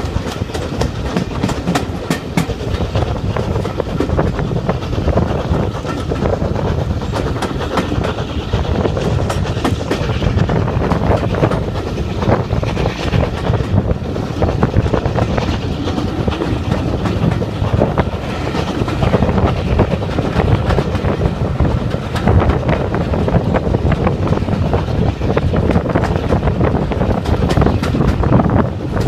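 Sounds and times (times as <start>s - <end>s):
train coach rumble: 0.0s - 29.0s
wheels clicking over rail joints: 0.0s - 29.0s.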